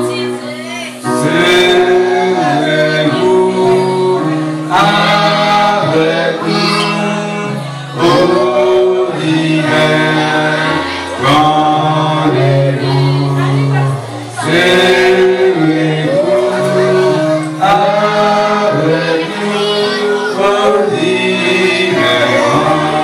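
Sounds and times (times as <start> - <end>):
held accompaniment notes: 0.0 - 23.0
men singing a hymn: 1.0 - 23.0.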